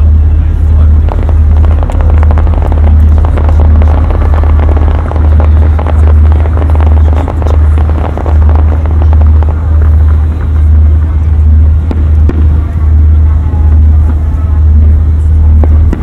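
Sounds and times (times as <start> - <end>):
firework booms: 0.0 - 16.0
firework crackling: 0.0 - 16.0.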